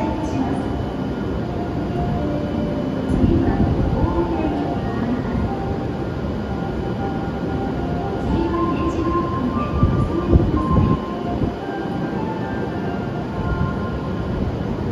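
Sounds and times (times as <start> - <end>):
station ambience: 0.0 - 14.9
train running hum: 0.0 - 14.9.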